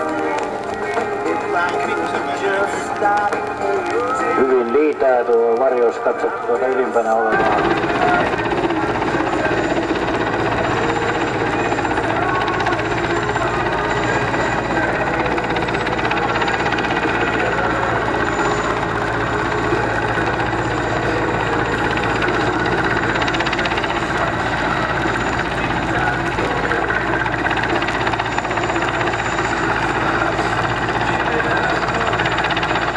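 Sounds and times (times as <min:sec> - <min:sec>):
helicopter rotor beating: 0:00.0 - 0:32.9.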